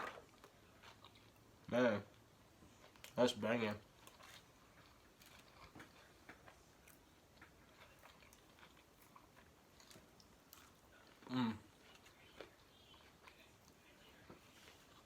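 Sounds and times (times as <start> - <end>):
person chewing: 0.0 - 3.2, 3.8 - 13.8.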